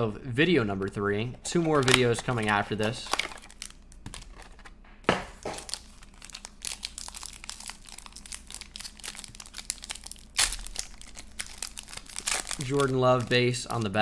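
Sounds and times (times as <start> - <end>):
foil pack crinkling: 0.6 - 14.0.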